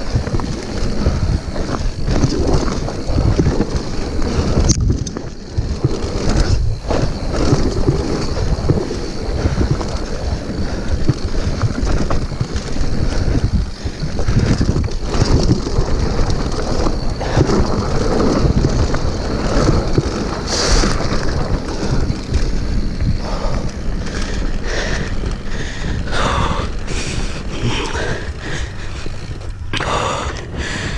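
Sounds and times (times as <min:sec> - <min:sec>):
bike rattling: 0:00.0 - 0:30.9
tyres rolling on loose stone: 0:00.0 - 0:30.9
wind buffeting microphone: 0:00.0 - 0:30.9.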